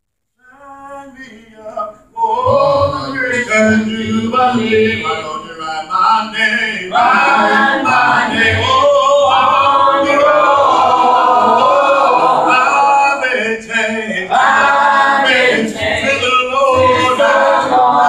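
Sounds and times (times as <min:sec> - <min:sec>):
man singing a hymn a cappella: 0:00.3 - 0:18.0.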